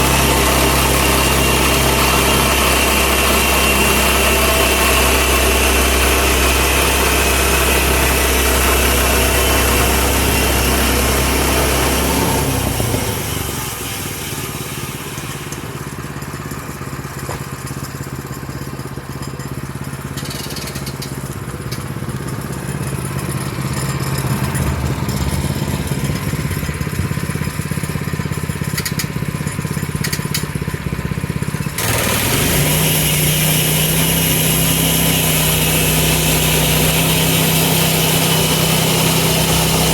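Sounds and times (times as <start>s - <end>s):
gas engine running: 0.0s - 39.9s.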